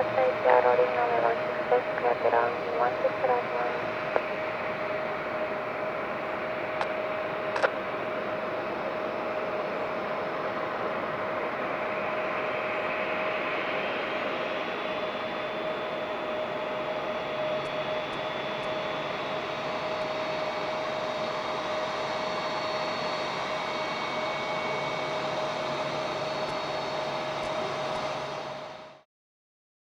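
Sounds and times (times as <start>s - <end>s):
turboprop airliner taking off: 0.0s - 29.0s.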